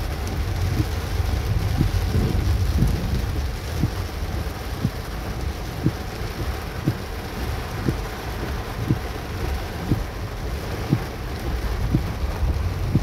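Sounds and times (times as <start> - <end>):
deep low rumble: 0.0 - 13.0
heavy rain falling: 0.0 - 13.0.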